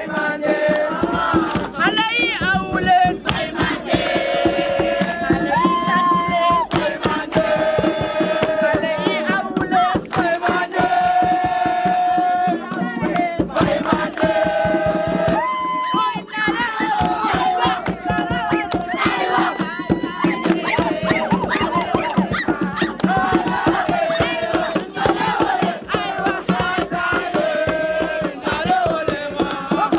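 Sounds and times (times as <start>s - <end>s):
crowd singing and shouting a chant: 0.0s - 29.9s
fast percussive beat: 0.0s - 29.9s.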